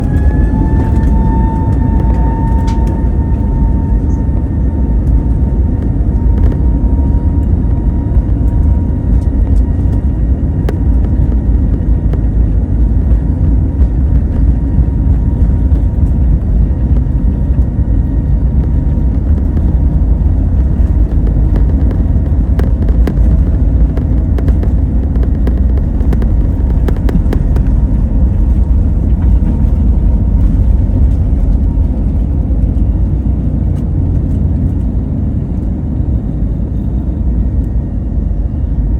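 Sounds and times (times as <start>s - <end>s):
jet engines at takeoff power: 0.0s - 38.9s.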